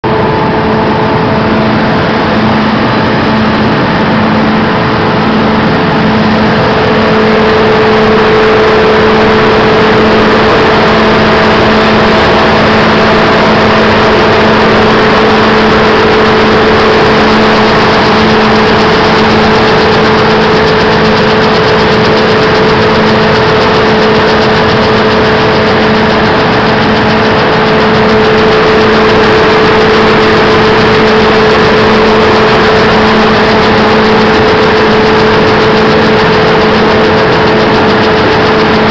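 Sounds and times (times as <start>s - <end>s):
machine hum with whine: 0.0s - 38.9s
kernels rattling on vibrating deck: 5.2s - 38.9s.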